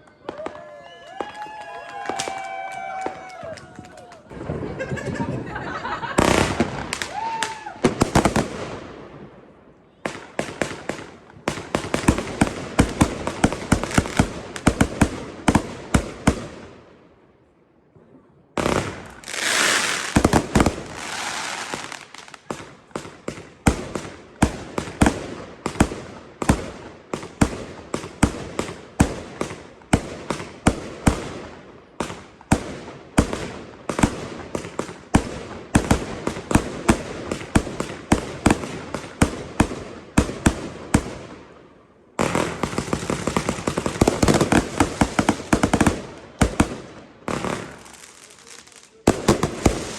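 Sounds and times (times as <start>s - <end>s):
fireworks banging: 0.0s - 9.5s, 10.1s - 16.7s, 18.0s - 49.9s.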